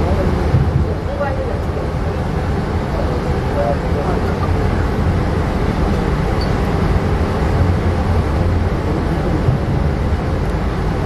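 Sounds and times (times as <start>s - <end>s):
train coach rumbling on rails: 0.0s - 11.0s.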